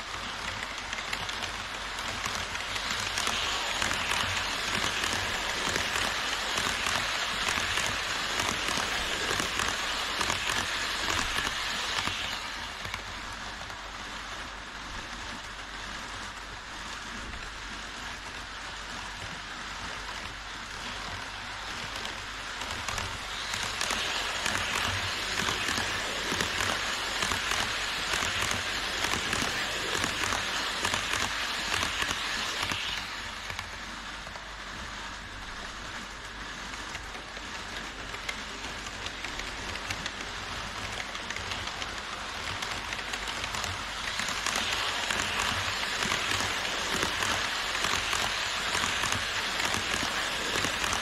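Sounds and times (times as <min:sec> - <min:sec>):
model train wheels rattling on rails: 0:00.0 - 0:51.0.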